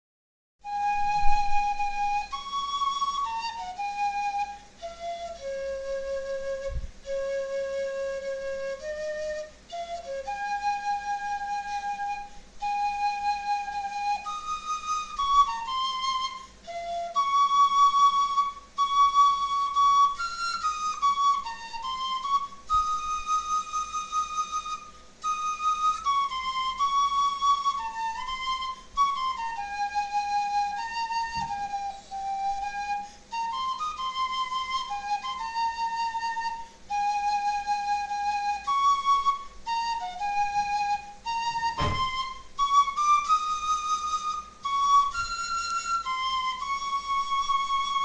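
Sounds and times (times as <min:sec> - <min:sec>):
fife melody: 0:00.6 - 0:48.0.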